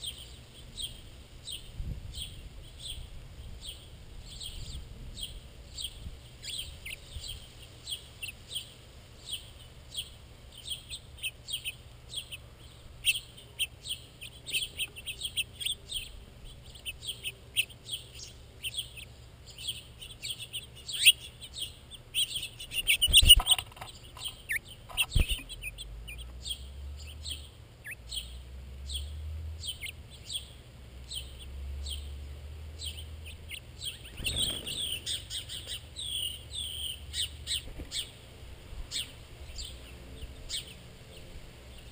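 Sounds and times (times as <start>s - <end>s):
finches chirping: 0.0s - 38.2s, 38.9s - 41.9s.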